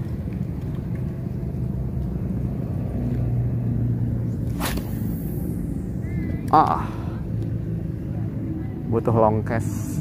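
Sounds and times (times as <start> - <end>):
motor humming low: 0.0 - 10.0.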